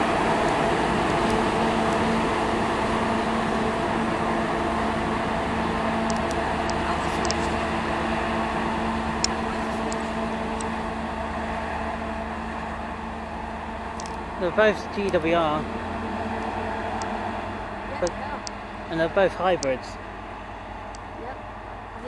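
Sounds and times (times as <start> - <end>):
diesel engines humming: 0.0 - 22.0.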